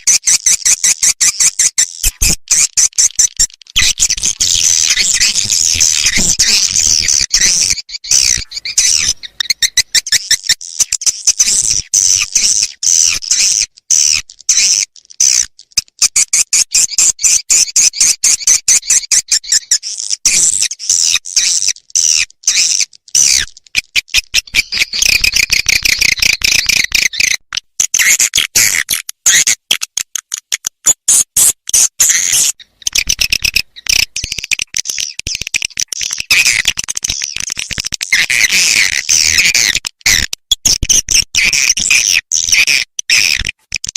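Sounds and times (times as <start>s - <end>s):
rapid high-pitched bird twittering: 0.0s - 29.6s, 30.8s - 43.9s.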